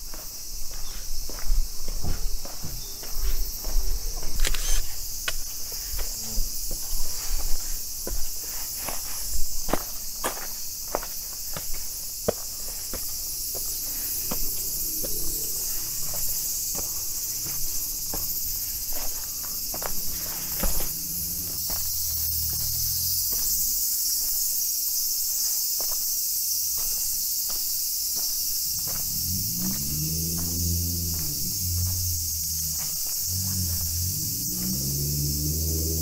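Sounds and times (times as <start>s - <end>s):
footsteps climbing outdoor steps: 0.0s - 36.0s
insects droning: 0.0s - 36.0s.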